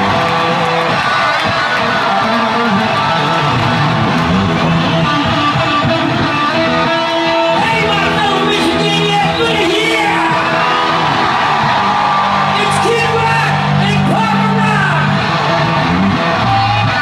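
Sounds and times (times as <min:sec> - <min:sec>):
electric guitar playing rock: 0:00.0 - 0:17.0
rock band playing: 0:00.0 - 0:17.0.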